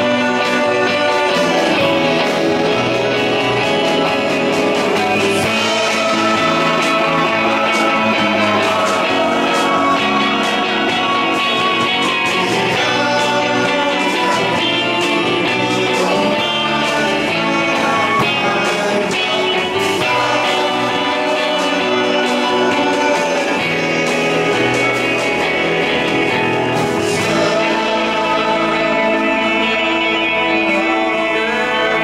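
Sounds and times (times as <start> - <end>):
man singing into a microphone: 0.0 - 25.2, 27.0 - 32.0
live band playing: 0.0 - 32.0.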